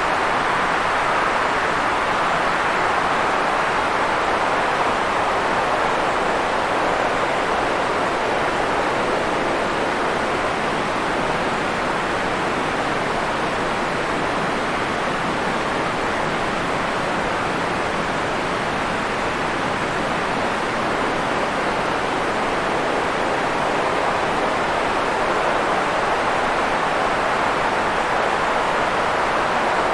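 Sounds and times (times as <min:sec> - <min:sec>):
steady white noise hiss: 0:00.0 - 0:29.9.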